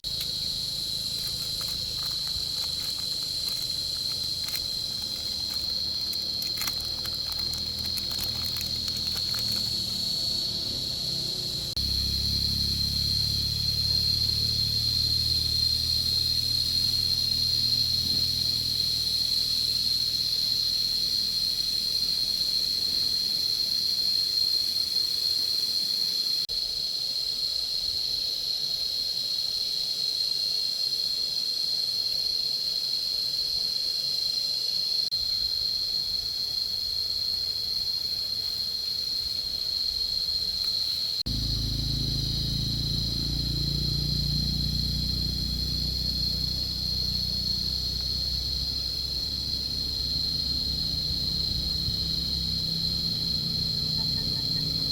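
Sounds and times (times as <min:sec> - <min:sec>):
insect chorus shrilling: 0:00.0 - 0:54.9.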